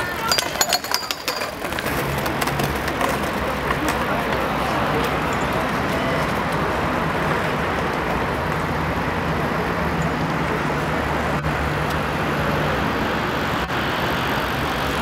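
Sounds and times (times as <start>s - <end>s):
city traffic roar: 0.0s - 15.0s.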